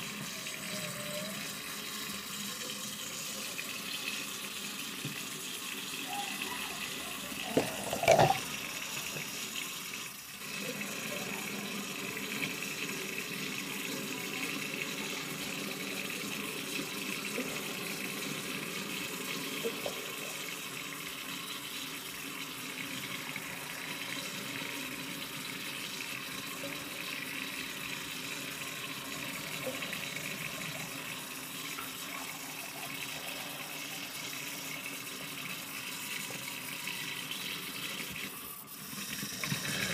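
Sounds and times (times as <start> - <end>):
faucet water pouring into sink: 0.0 - 39.9.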